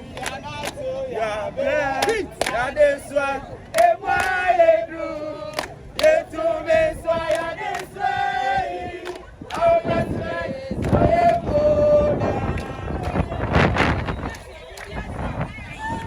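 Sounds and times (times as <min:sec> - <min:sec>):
crowd singing a chant: 0:00.0 - 0:16.0.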